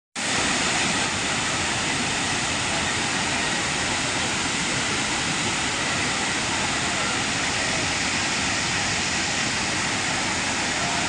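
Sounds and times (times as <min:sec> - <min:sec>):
waterfall pouring: 0:00.2 - 0:11.0.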